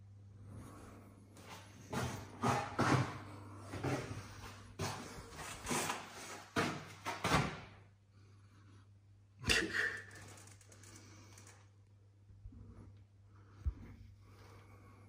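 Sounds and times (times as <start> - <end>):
steady low hum: 0.0 - 7.0, 7.7 - 15.0.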